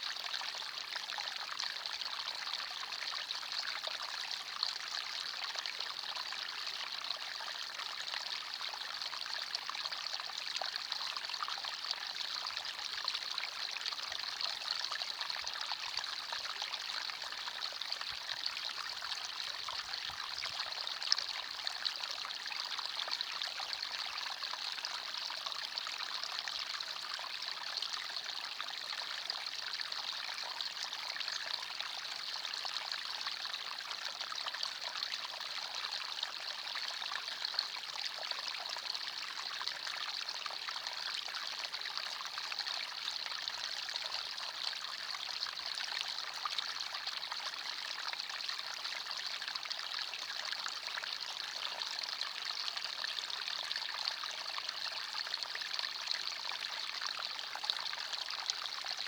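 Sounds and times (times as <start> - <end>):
stream water trickling over stones: 0.0 - 59.0.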